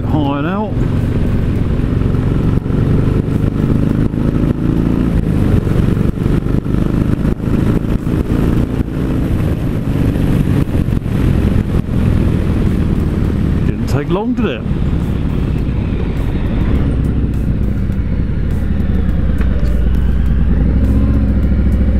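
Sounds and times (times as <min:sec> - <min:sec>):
motorcycle engine running: 0:00.0 - 0:21.9
wind noise on microphone: 0:00.7 - 0:21.9.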